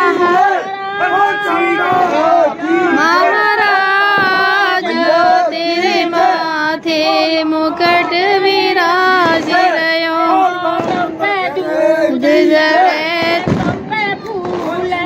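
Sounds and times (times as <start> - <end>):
woman singing: 2.9 - 15.0.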